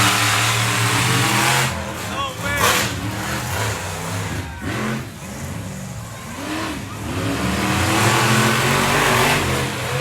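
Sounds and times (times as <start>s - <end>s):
monster truck engines revving: 0.0s - 10.0s.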